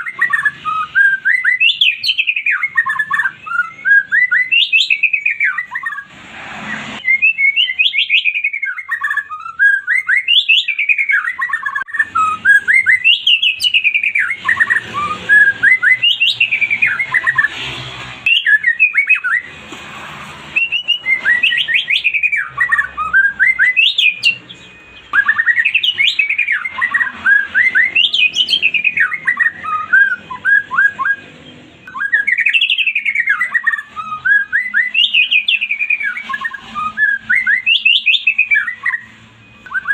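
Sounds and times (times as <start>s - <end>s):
songbird whistling: 0.0s - 19.6s, 20.4s - 39.9s.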